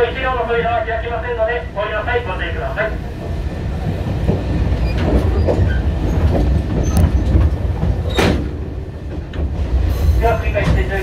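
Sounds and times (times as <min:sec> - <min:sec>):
rumble of wheels on track: 0:00.0 - 0:11.0.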